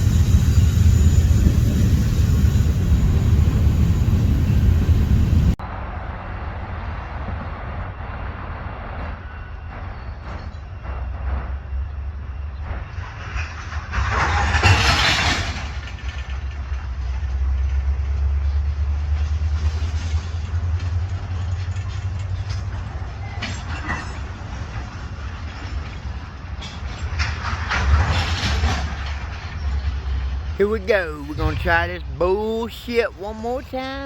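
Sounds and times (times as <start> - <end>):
freight train rumbling: 0.0 - 34.0.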